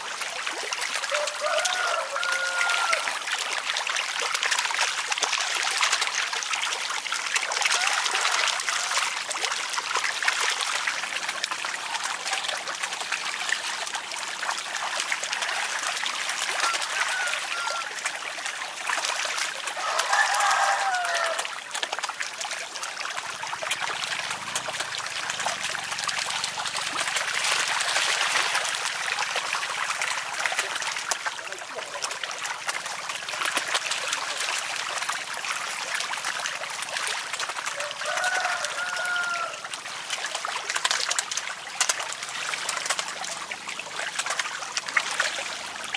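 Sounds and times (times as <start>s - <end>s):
fish splashing in water: 0.0s - 45.9s.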